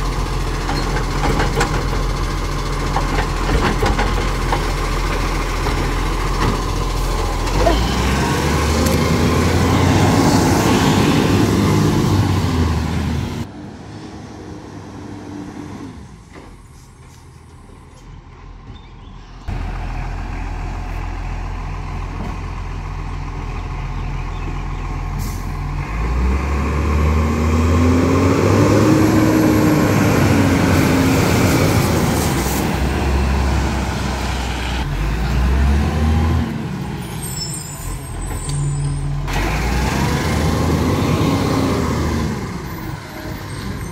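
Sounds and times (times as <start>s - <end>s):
diesel truck engine revving: 0.0s - 16.2s, 19.5s - 43.9s.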